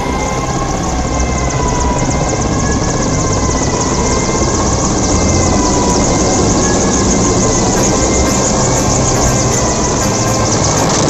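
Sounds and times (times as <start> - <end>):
helicopter engine whine: 0.0 - 11.0
helicopter rotor beat: 0.0 - 11.0.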